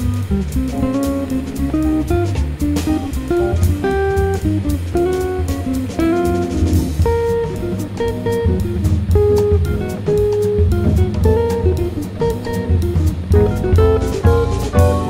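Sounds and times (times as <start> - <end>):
drum beat: 0.0 - 15.0
plucked guitar tune: 0.0 - 15.0.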